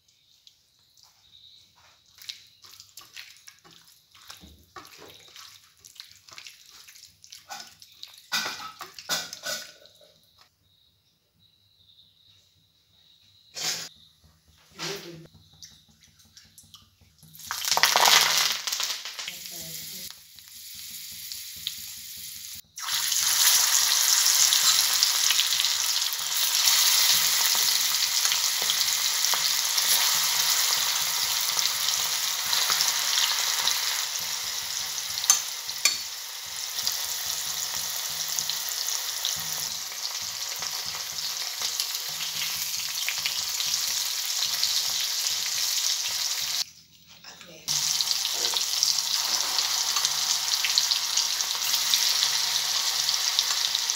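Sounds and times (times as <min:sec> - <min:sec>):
chicken deep-frying in oil: 0:00.0 - 0:10.4, 0:13.6 - 0:46.7, 0:47.5 - 0:53.9
leaves crackling in hot oil: 0:02.0 - 0:10.0, 0:16.6 - 0:46.7, 0:47.7 - 0:53.9.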